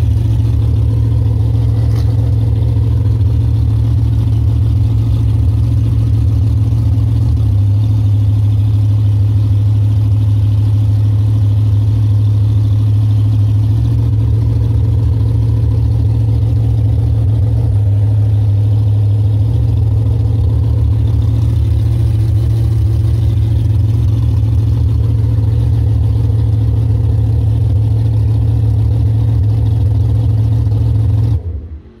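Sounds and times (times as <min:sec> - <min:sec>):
engine running at low revs: 0:00.0 - 0:32.0.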